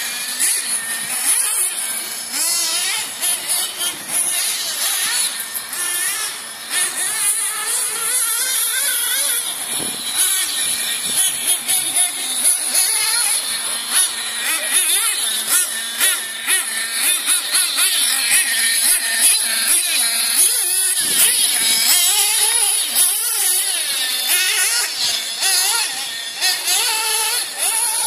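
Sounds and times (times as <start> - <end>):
small engine revving high: 0.0 - 28.0.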